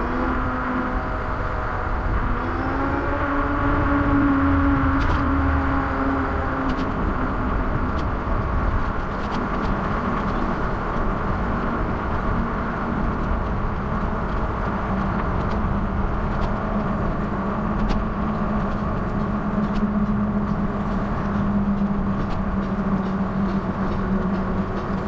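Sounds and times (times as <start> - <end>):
bicycle road noise: 0.0 - 25.0
low hum: 0.0 - 25.0
rushing wind: 0.0 - 25.0.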